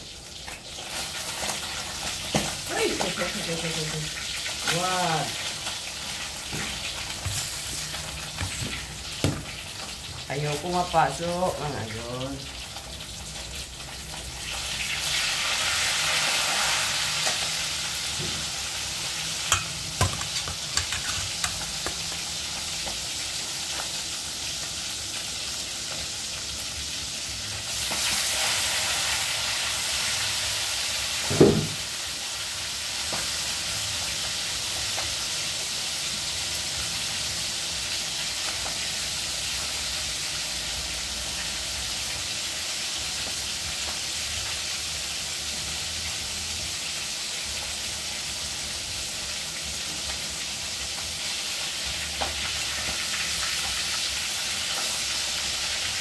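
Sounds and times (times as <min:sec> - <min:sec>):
food sizzling in hot oil: 0:00.0 - 0:56.0.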